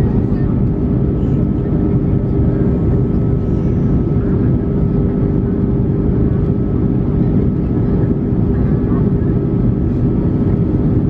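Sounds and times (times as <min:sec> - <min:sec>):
airplane cabin engine rumble: 0:00.0 - 0:11.0
constant drone: 0:00.0 - 0:11.0.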